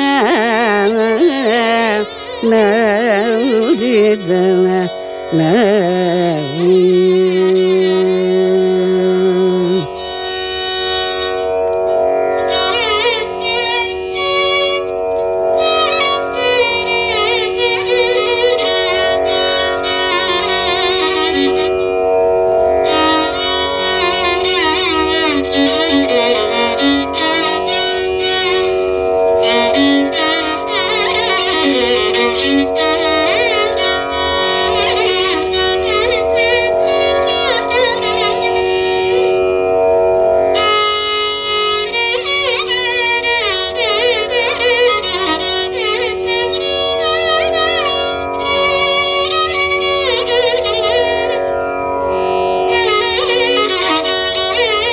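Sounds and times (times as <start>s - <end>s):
steady drone: 0.0s - 54.9s
violin melody with sliding ornaments: 0.0s - 54.9s.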